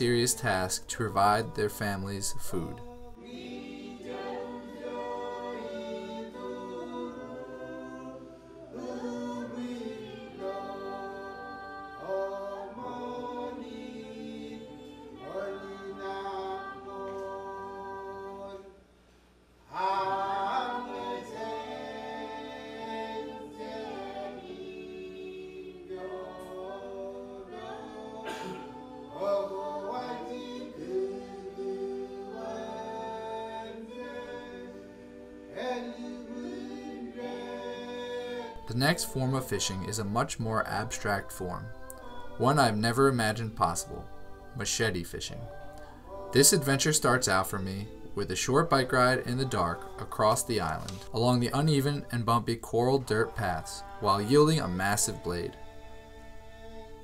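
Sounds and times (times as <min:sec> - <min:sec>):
choir singing: 0:00.0 - 0:18.9, 0:19.7 - 0:57.0.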